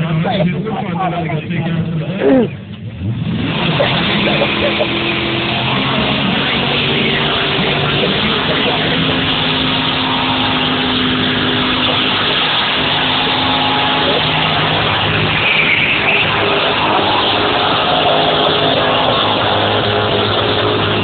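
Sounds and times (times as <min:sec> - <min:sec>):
car engine at high revs: 0:00.0 - 0:21.0
tyres spinning: 0:03.6 - 0:21.0.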